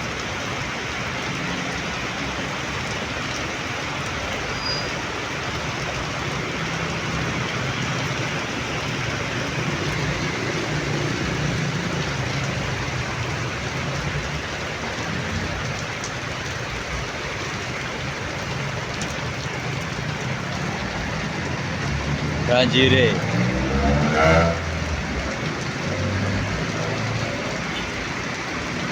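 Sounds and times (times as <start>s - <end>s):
heavy rain pouring: 0.0s - 28.9s
vehicle engine humming: 5.4s - 28.9s.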